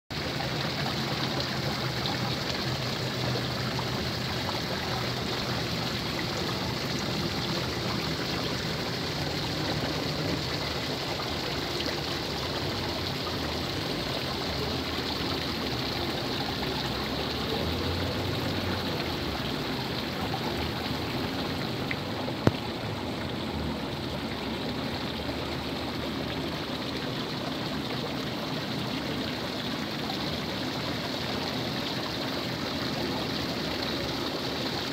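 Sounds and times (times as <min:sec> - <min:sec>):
small waterfall trickling: 0:00.1 - 0:34.9.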